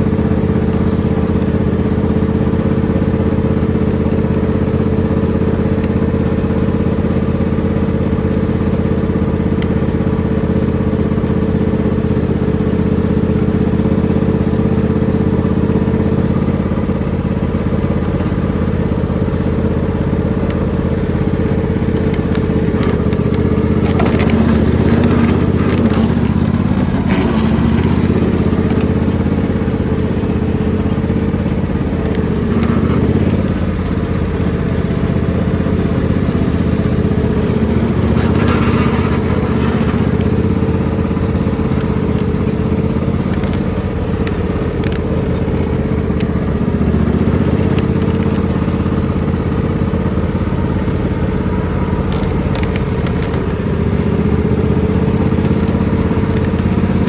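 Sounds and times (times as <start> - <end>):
riding lawn mower engine running: 0.0 - 57.0.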